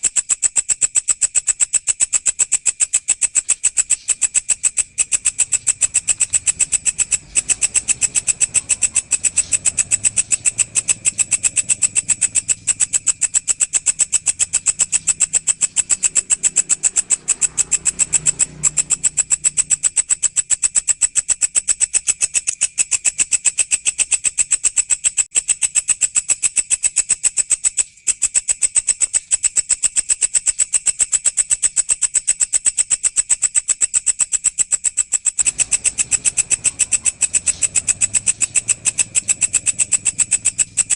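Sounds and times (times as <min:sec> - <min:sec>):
grasshopper stridulating: 0:00.0 - 0:40.9.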